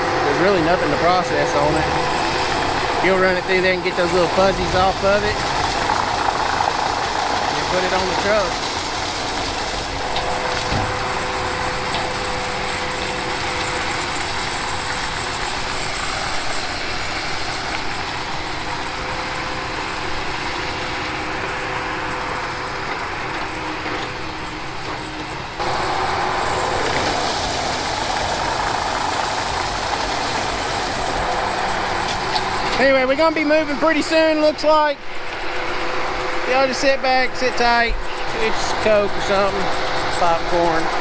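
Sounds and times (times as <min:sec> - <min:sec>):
diesel engine and hydraulic drone: 0:00.0 - 0:41.0
high hiss: 0:00.0 - 0:41.0.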